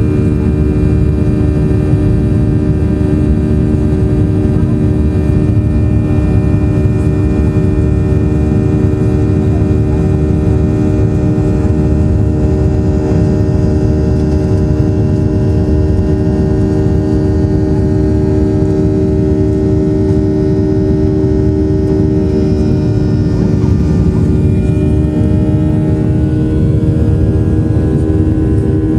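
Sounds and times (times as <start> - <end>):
jet engines droning: 0.0 - 28.9.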